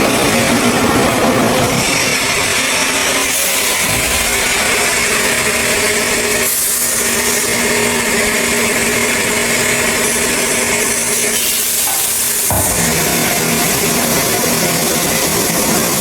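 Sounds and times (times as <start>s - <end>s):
power saw grinding stone: 1.2s - 16.0s.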